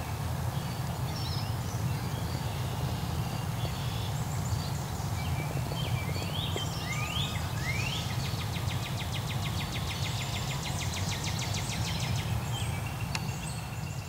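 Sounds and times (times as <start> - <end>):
small bird singing: 0.5 - 14.0.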